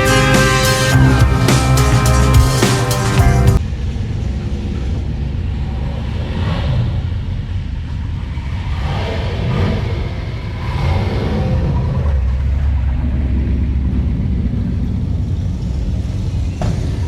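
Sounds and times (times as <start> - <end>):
car engine deep rumble: 0.0 - 17.0.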